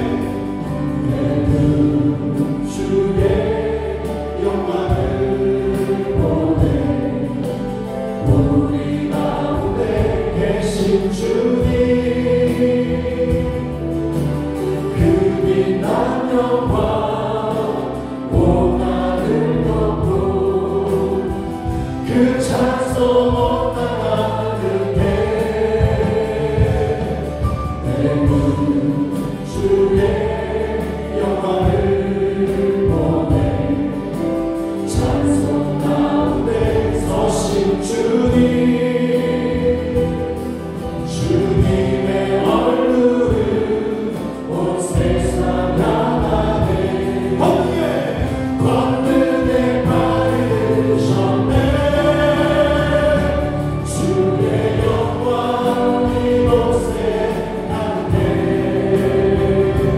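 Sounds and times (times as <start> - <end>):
bass guitar: 0.0 - 59.9
drum kit with cymbals: 0.0 - 59.9
electric keyboards: 0.0 - 59.9
group singing gospel song: 0.0 - 59.9.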